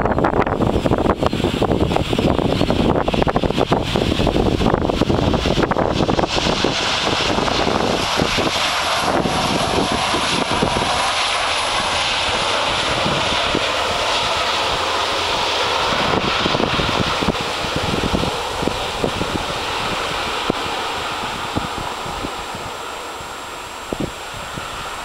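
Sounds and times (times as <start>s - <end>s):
jet engine high whine: 0.0s - 25.0s
jet engine roar: 0.0s - 25.0s.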